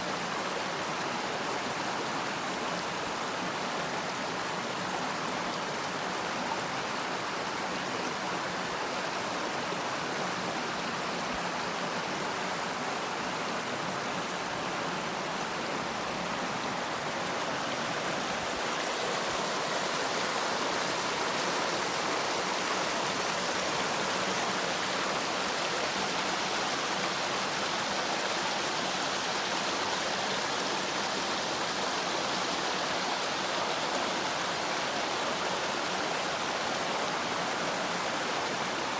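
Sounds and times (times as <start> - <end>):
mountain river babbling: 0.0 - 38.9.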